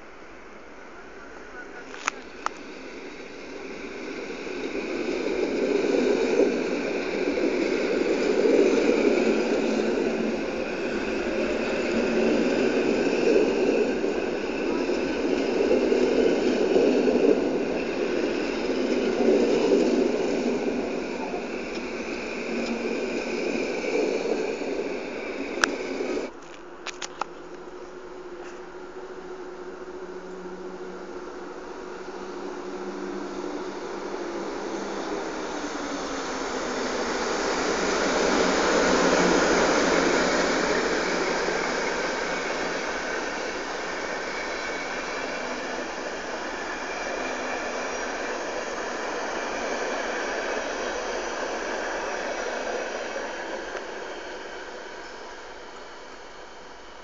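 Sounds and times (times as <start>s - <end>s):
high steady whine: 0.0s - 57.0s
train wheels rumbling on rails: 0.7s - 57.0s.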